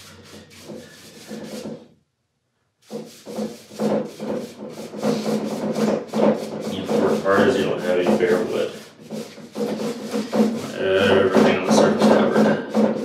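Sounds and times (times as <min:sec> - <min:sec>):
foam brush rubbing on wood: 0:00.0 - 0:01.9, 0:02.8 - 0:13.0.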